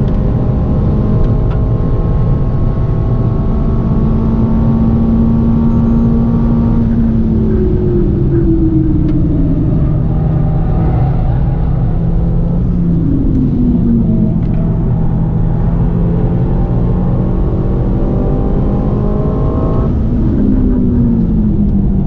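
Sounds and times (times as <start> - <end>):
car engine at high revs: 0.0 - 22.0
road and wind noise: 0.0 - 22.0.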